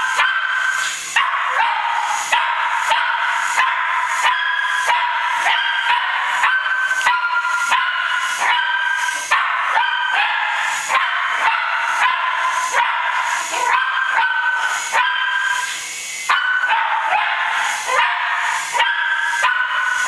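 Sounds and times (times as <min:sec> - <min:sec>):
toy helicopter motor whine: 0:00.0 - 0:20.0
small dog yappy barking: 0:00.2 - 0:20.0.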